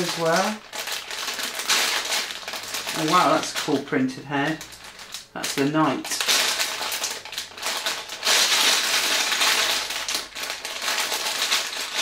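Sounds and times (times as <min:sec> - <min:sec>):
plastic bag of bricks crinkling: 0:00.0 - 0:12.0.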